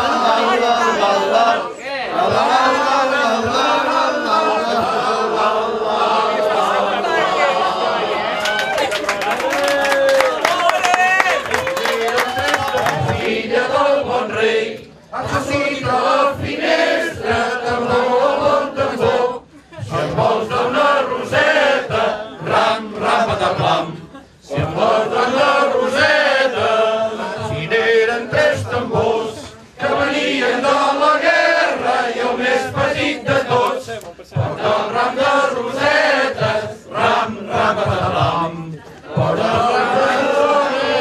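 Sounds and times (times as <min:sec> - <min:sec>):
men singing unaccompanied: 0:00.0 - 0:07.9, 0:12.8 - 0:41.0.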